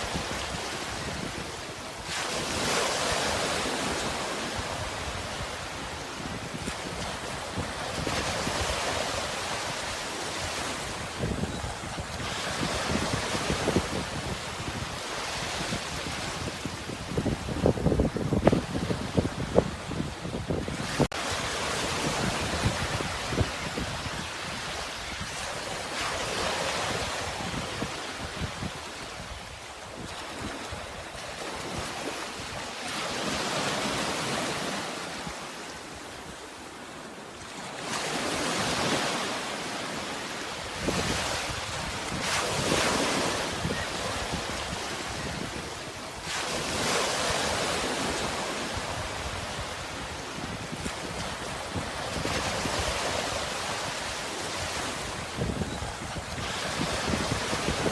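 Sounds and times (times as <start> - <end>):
sea waves washing ashore: 0.0 - 57.9.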